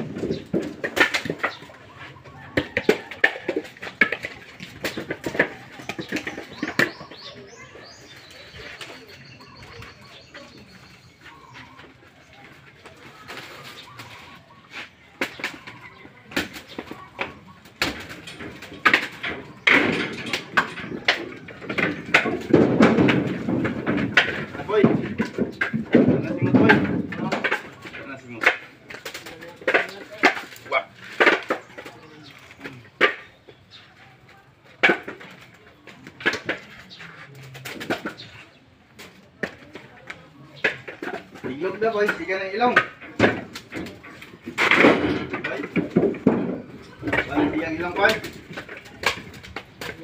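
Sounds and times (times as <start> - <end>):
coconuts knocking and thudding: 0.0 - 50.0.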